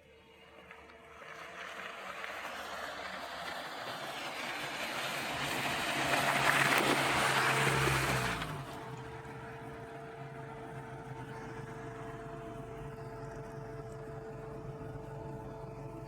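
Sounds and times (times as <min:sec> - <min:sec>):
car engine hum: 0:00.0 - 0:16.0.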